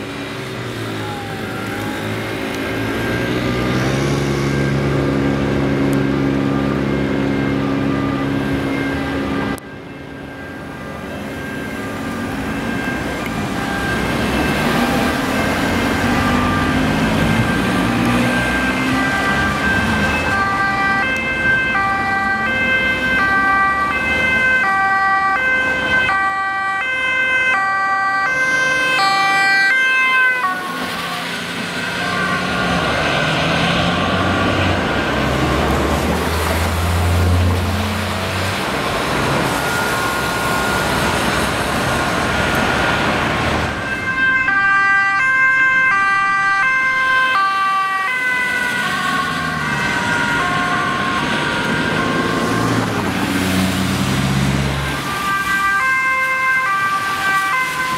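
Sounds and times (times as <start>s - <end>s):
traffic noise: 0.0s - 57.9s
two-tone ambulance siren: 0.0s - 57.9s.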